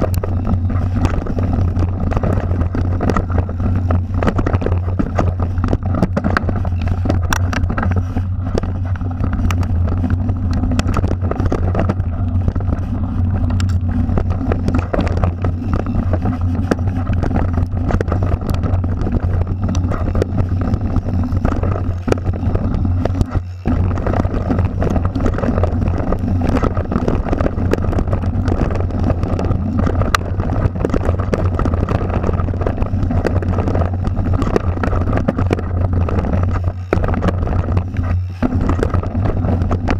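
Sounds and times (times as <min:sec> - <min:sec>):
bike rumbling and rattling: 0:00.0 - 0:39.9
wheels knocking on rocks: 0:00.0 - 0:39.9
wind on microphone: 0:00.0 - 0:39.9.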